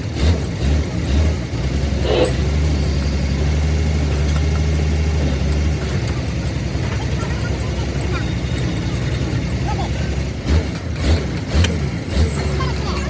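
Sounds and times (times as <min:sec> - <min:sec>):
engine running low hum: 0:00.0 - 0:13.0.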